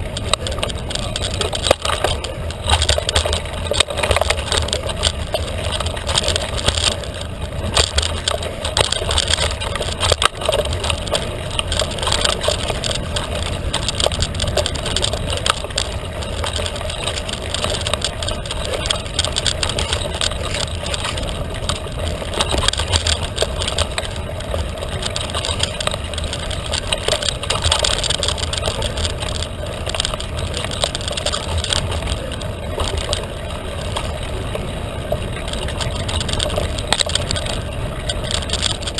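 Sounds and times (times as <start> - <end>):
bike rattles and knocks: 0.0 - 38.9
bike tyre and drivetrain noise: 0.0 - 38.9.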